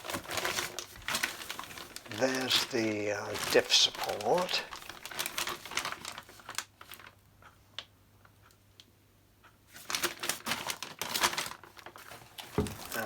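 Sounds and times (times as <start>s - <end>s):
packaging rustling and crinkling: 0.0s - 7.2s, 9.7s - 13.0s.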